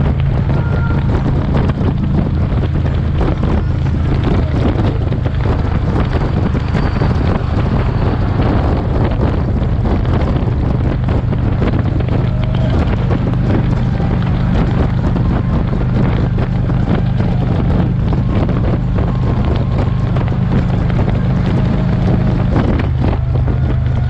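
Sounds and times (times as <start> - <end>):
motorcycle engine drone: 0.0 - 24.0
wind buffeting microphone: 0.0 - 24.0.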